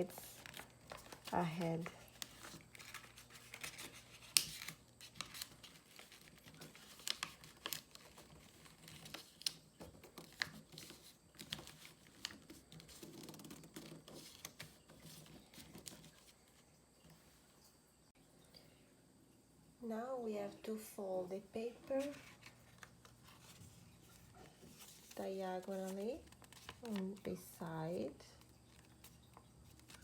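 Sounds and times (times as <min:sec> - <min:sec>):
paper being folded: 0:00.0 - 0:16.6, 0:21.9 - 0:30.0.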